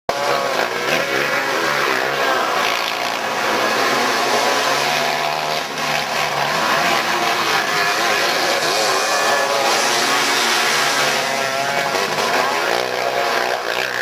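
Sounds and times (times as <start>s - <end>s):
kart engines racing past: 0.1s - 14.0s.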